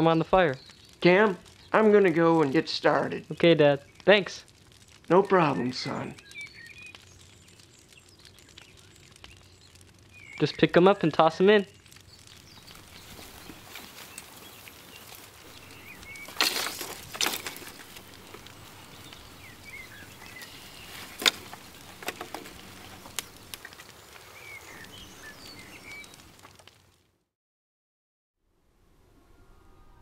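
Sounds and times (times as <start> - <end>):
dry sticks rustling and snapping: 0.0 - 5.2, 5.8 - 27.0
birds chirping: 0.0 - 26.4.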